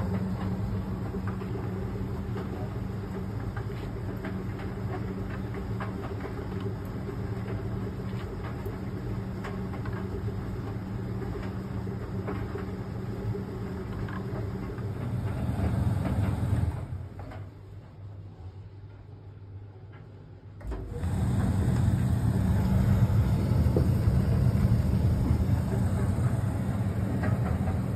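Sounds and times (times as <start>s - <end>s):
clothes dryer running: 0.0s - 18.6s, 20.4s - 27.9s.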